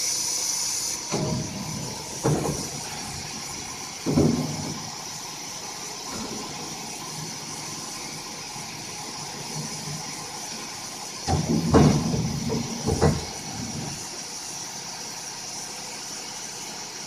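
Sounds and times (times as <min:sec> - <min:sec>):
machining center hissing: 0:00.0 - 0:17.0.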